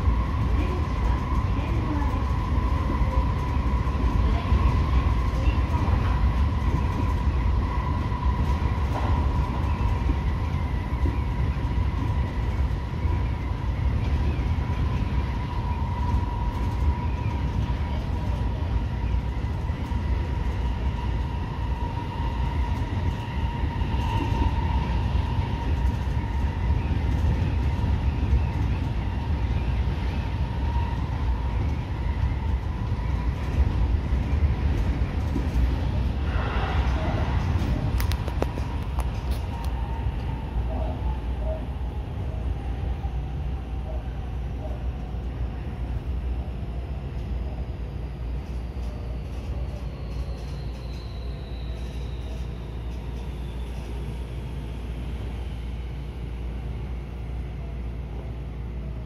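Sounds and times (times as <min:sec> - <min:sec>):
thin steady whine: 0:00.0 - 0:59.0
wheels rumbling on rail: 0:00.0 - 0:59.0.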